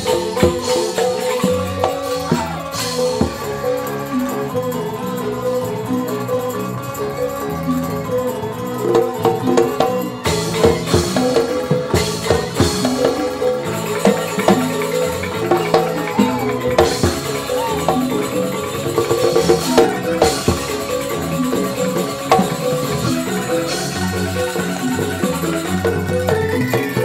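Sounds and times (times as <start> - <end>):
bamboo xylophones: 0.0 - 27.0
drums: 0.0 - 27.0
jingling percussion: 0.0 - 27.0.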